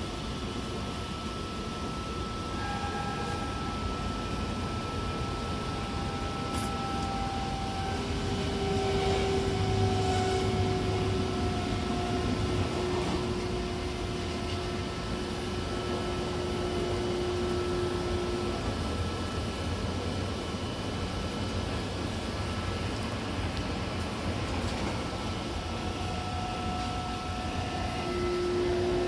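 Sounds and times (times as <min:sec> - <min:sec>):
electric train running: 0:00.0 - 0:29.0
inverter and motor whine: 0:00.0 - 0:29.0
train wheel rolling noise: 0:00.0 - 0:29.0.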